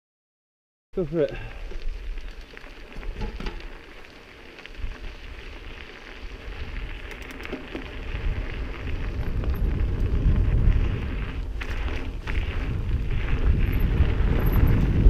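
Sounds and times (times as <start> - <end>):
bike tyres rolling on gravel: 1.0 - 15.0
wind rumbling on microphone: 1.2 - 15.0.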